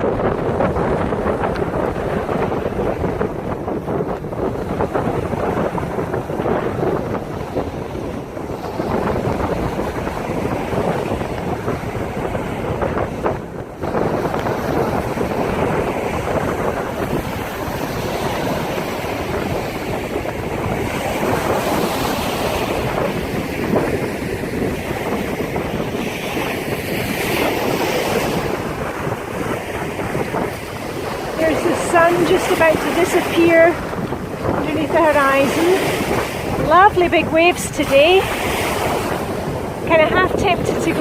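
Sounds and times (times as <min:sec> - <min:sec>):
waves breaking on shore: 0:00.0 - 0:41.0
wind buffeting microphone: 0:00.0 - 0:41.0.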